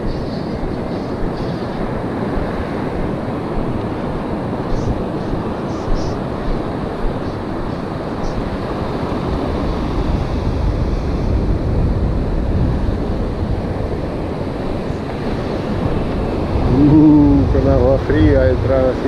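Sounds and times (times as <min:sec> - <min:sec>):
ocean surf breaking on beach: 0:00.0 - 0:19.0
wind rumbling on microphone: 0:00.0 - 0:19.0.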